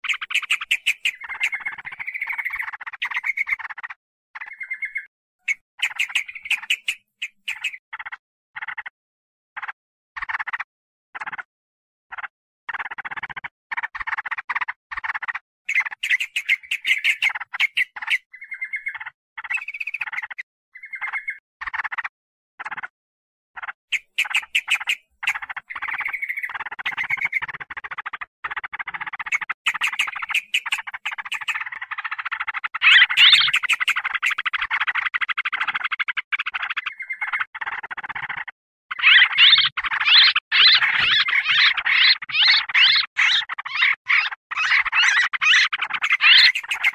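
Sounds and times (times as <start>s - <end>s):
bird chattering calls: 0.0s - 8.9s, 12.1s - 22.9s, 23.6s - 46.9s.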